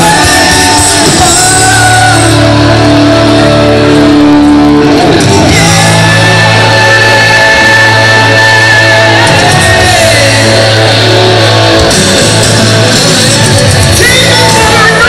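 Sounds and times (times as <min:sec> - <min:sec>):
electric guitar: 0:00.0 - 0:15.0
person singing: 0:00.0 - 0:15.0
rock band playing live: 0:00.0 - 0:15.0.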